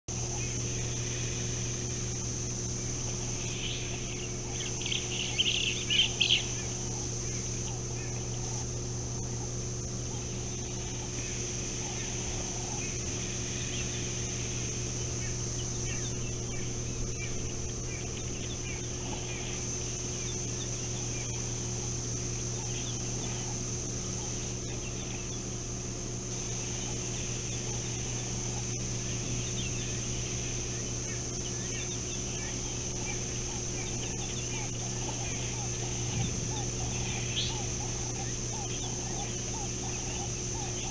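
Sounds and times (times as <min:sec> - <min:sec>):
high insect drone: 0:00.0 - 0:40.9
bird calling: 0:00.1 - 0:40.9
low steady hum: 0:00.1 - 0:40.9.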